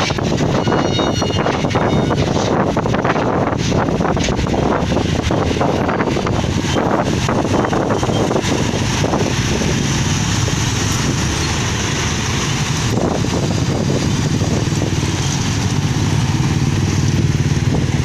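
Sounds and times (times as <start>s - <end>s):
motorcycle engines: 0.0s - 18.0s
truck engine: 0.0s - 18.0s.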